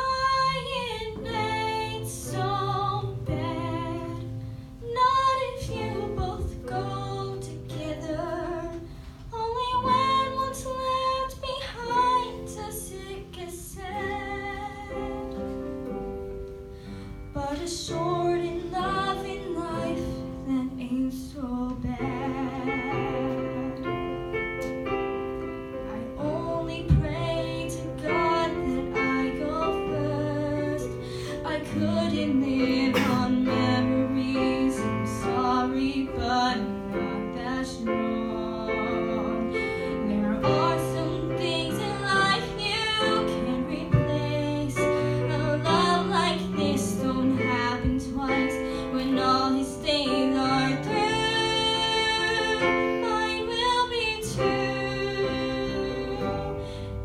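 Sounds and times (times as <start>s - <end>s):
young woman singing: 0.0s - 16.0s, 17.2s - 24.6s, 25.7s - 57.0s.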